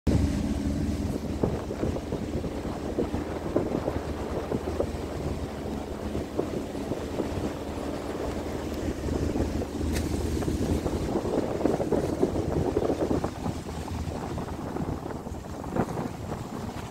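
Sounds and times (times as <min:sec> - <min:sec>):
wind buffeting microphone: 0:00.1 - 0:16.9.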